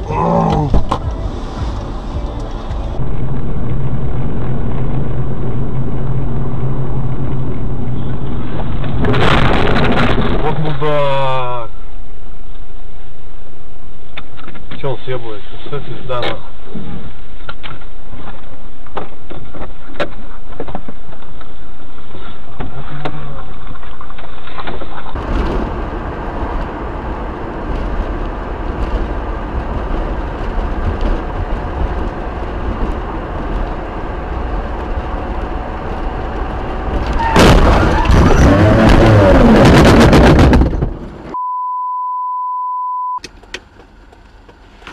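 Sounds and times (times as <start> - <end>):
vehicle road and engine noise: 0.0 - 41.4, 43.2 - 44.9.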